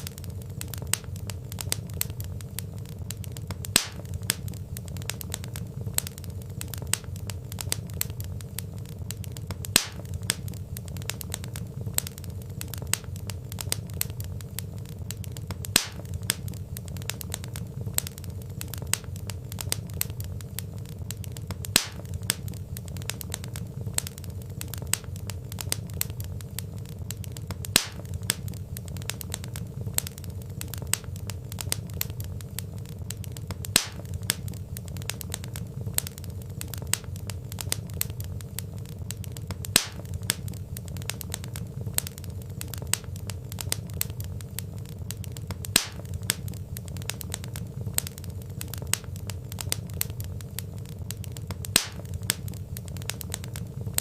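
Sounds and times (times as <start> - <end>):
sharp pops of burning logs: 0.0 - 54.0
wood fire crackling: 0.0 - 54.0.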